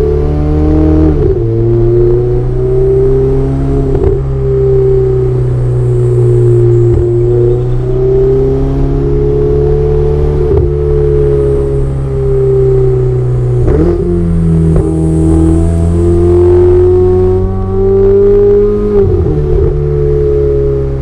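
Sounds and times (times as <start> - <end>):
car engine and exhaust: 0.0 - 21.0.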